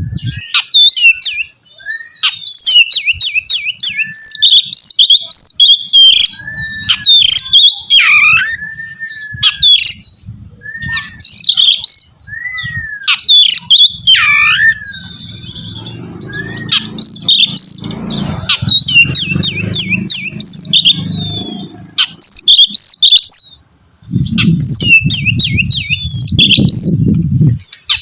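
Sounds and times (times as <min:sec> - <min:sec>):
bird singing whistled song: 0:00.0 - 0:28.0.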